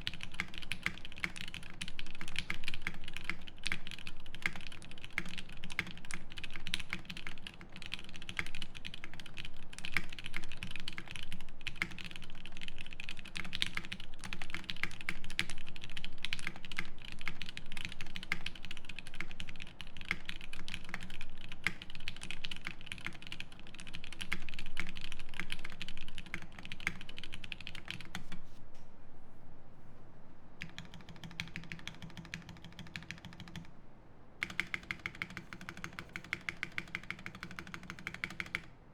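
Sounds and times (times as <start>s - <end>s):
mechanical keyboard typing: 0.0s - 28.4s, 30.6s - 33.7s, 34.4s - 38.7s.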